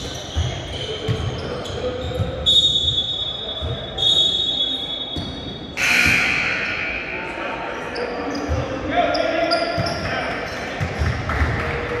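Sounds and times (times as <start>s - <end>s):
sneakers squeaking: 0.0s - 11.5s
crowd noise: 0.0s - 12.0s.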